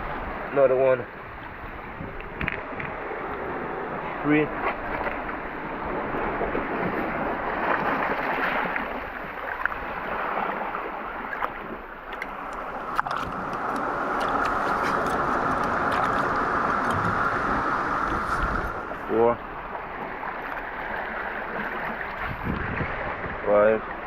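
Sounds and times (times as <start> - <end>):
sea water sloshing and splashing: 0.0 - 24.0.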